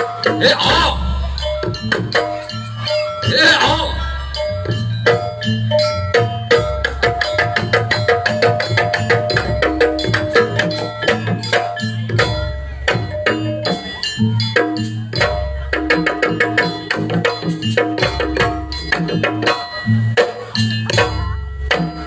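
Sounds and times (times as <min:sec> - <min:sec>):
hand drums beating: 0:00.0 - 0:22.0
ringing tuned percussion: 0:00.0 - 0:22.0.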